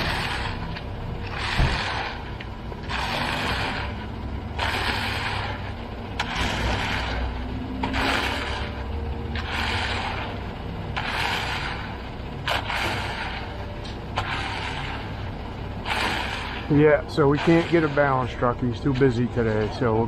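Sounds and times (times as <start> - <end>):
concrete mixer truck rumbling: 0.0 - 20.0
rake scraping wet concrete: 0.0 - 20.0.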